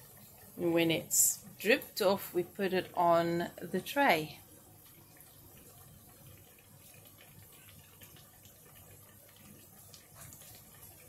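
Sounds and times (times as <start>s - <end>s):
syrup dripping and trickling: 0.0s - 11.0s.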